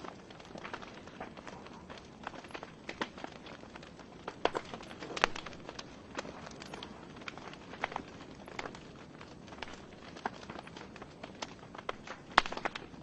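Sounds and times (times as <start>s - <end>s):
logs crackling and popping: 0.0s - 13.0s.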